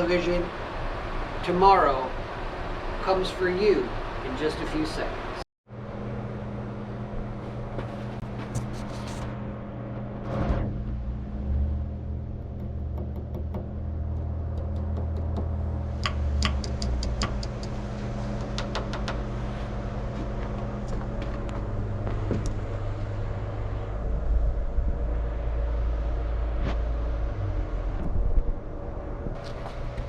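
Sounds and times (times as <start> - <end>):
vehicle engine humming: 5.7 - 30.0.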